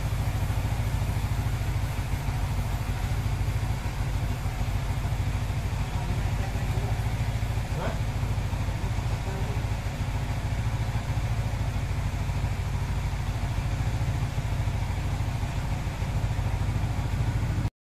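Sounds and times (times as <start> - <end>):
motorcycle engine idling: 0.0 - 17.7.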